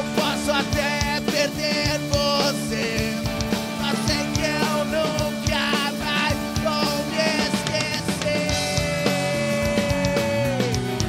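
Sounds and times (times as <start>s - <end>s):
drum kit: 0.0s - 11.0s
electric guitar: 0.0s - 11.0s
man singing: 0.0s - 11.0s.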